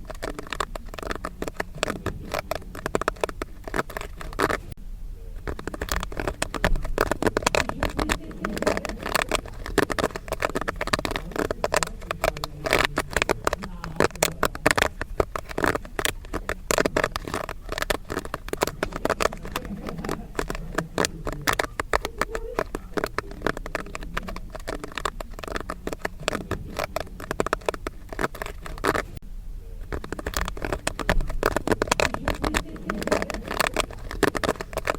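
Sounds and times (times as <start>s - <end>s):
popcorn popping: 0.0s - 34.9s.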